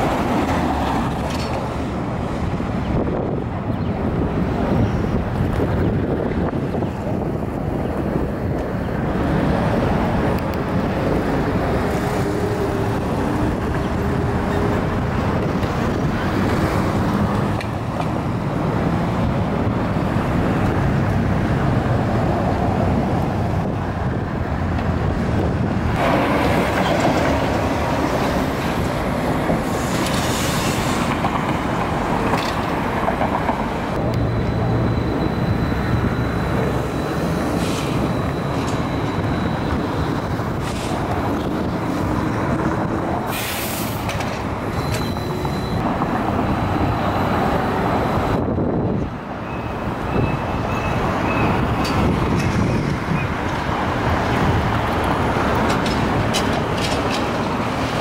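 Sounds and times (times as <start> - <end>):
street traffic passing: 0.0 - 58.0.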